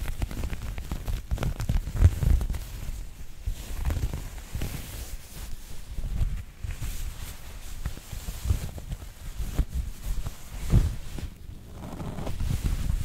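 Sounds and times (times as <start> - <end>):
sweater rubbing on microphone: 0.0 - 13.0.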